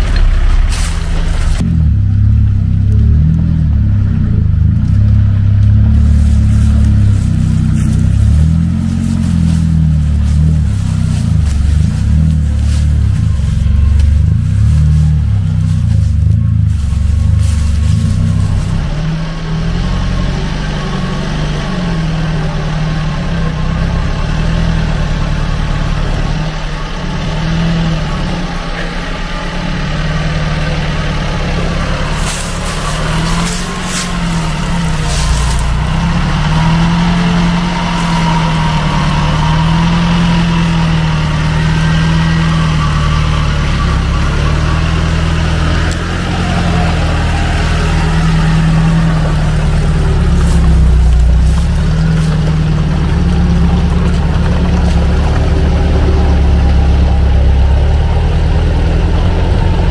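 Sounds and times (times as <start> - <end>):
vehicle engine under load: 0.0 - 59.9.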